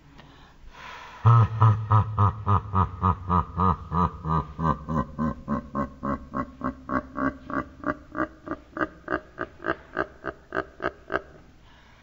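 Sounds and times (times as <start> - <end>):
man laughing evilly: 1.2 - 11.4.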